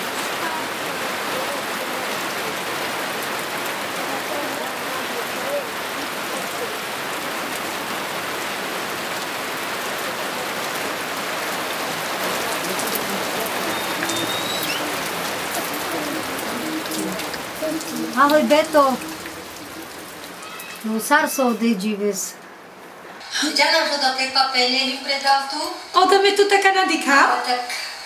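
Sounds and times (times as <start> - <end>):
individual raindrops: 0.0 - 26.1
steady rain hiss: 0.0 - 28.0.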